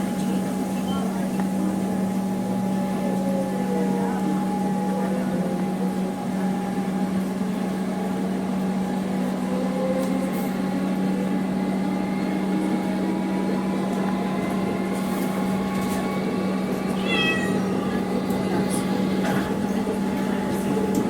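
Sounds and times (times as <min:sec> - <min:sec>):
electric train running: 0:00.0 - 0:21.0.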